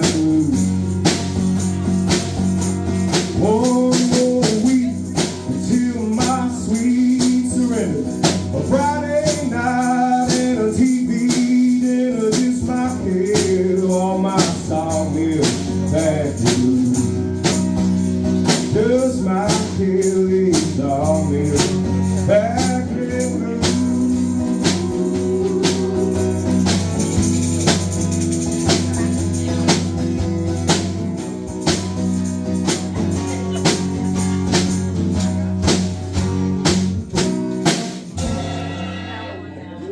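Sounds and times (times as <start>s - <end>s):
country blues band music: 0.0s - 39.9s
tambourine-like percussion: 0.0s - 39.9s.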